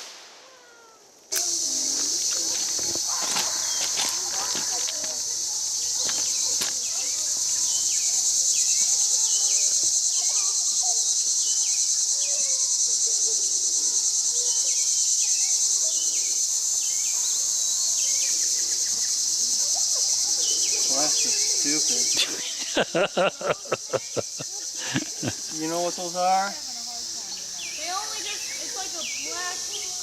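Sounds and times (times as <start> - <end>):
night insects chorus: 0.0 - 30.0.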